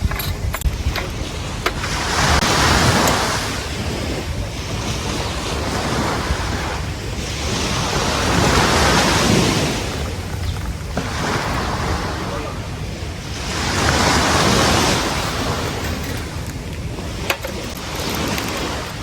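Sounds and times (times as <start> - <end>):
sea waves breaking on beach: 0.0 - 19.0
wind rumble on microphone: 0.0 - 19.0.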